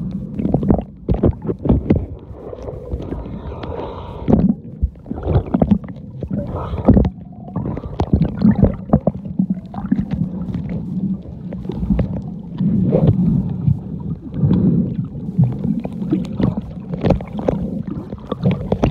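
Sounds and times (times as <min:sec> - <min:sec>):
underwater clicks and knocks: 0:00.0 - 0:13.8, 0:15.3 - 0:18.9
underwater low rumble: 0:00.0 - 0:18.9.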